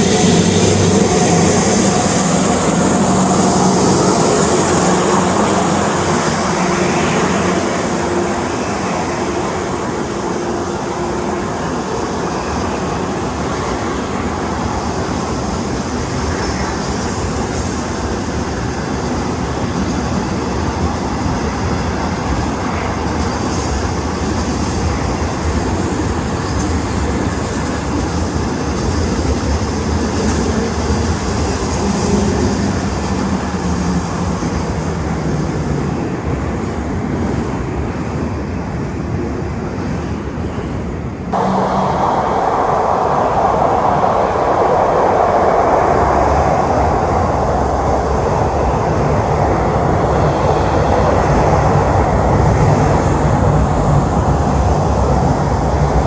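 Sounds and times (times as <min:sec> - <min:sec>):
passing train rushing: 0:00.0 - 0:56.0.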